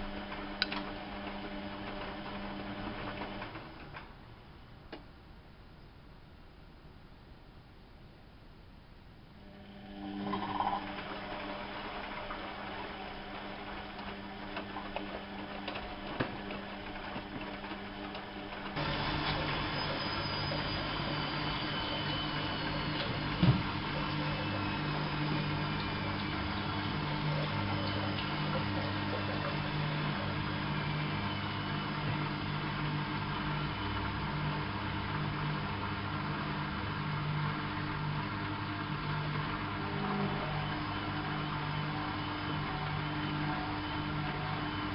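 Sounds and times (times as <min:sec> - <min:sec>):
washing machine humming: 0:00.0 - 0:04.4, 0:09.4 - 0:44.9.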